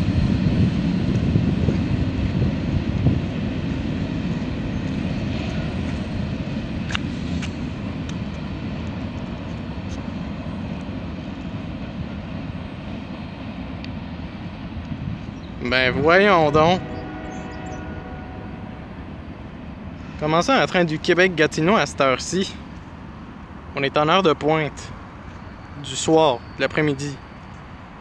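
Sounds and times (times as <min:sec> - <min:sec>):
diesel locomotive engine rumble: 0:00.0 - 0:28.0.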